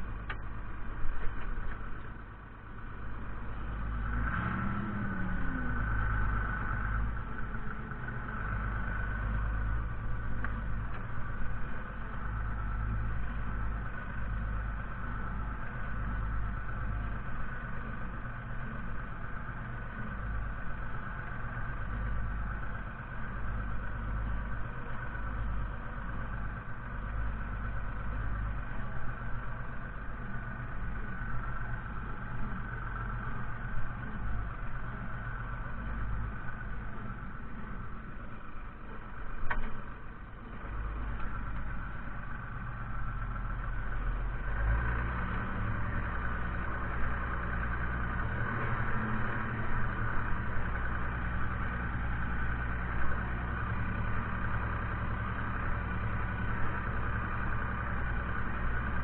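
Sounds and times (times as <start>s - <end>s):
high engine whine: 0.0s - 59.0s
tractor diesel engine rumbling: 0.0s - 59.0s.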